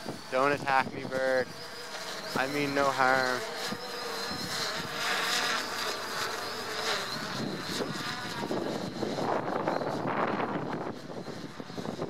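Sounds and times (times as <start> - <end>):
quadcopter motors buzzing: 0.0 - 12.0.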